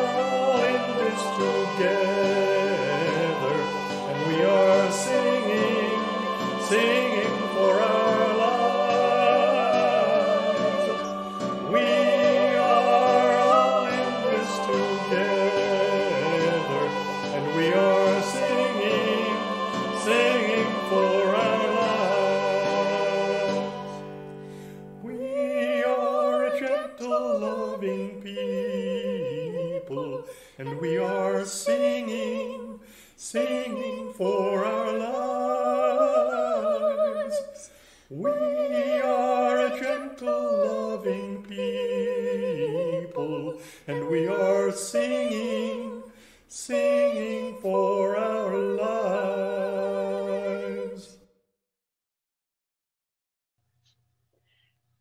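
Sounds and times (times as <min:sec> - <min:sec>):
single voice singing with vibrato: 0:00.0 - 0:24.0, 0:25.0 - 0:51.2
hymn singing: 0:00.0 - 0:51.2.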